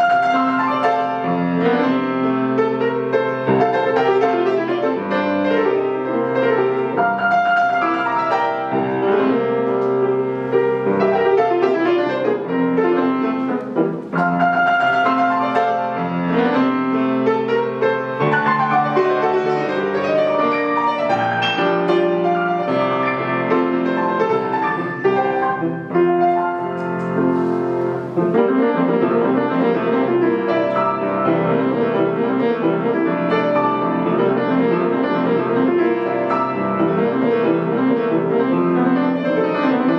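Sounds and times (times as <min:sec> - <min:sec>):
grand piano playing classical passage: 0:00.0 - 0:39.9.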